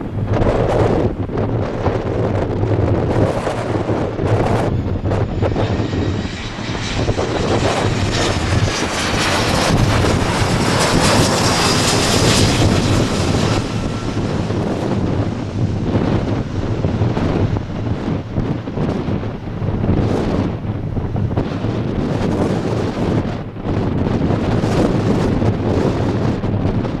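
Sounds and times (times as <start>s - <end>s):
jet engines passing: 0.0s - 27.0s
wind buffeting microphone: 0.0s - 27.0s.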